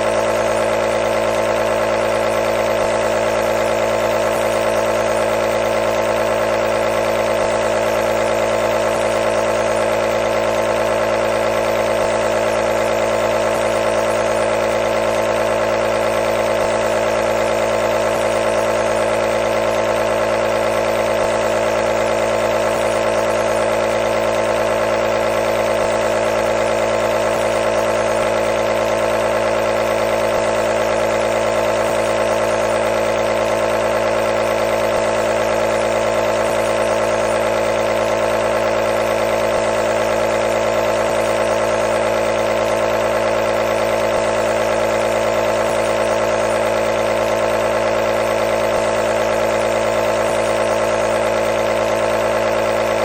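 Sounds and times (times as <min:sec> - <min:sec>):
nebulizer compressor humming: 0:00.0 - 0:53.0.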